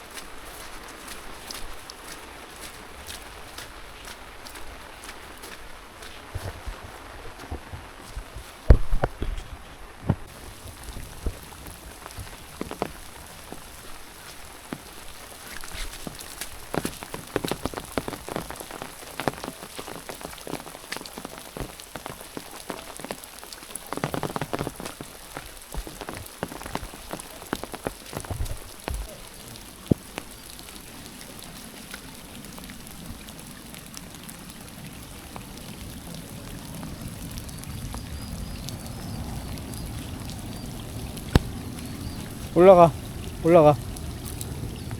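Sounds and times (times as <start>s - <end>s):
rain falling: 0.0s - 44.9s
sharp raindrop taps: 0.0s - 44.9s.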